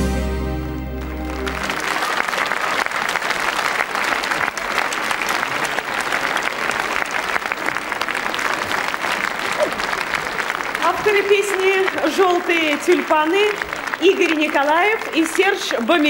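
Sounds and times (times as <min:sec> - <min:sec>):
audience applauding: 0:00.8 - 0:16.0.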